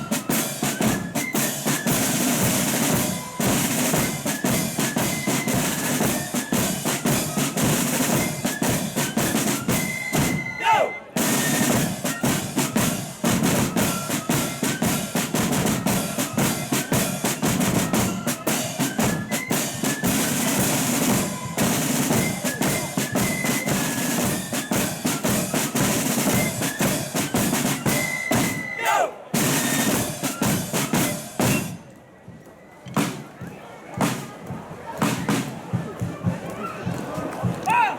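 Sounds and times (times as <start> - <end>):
snare drum rolls: 0.0 - 31.8, 32.9 - 37.9
high flute melody: 0.0 - 33.8.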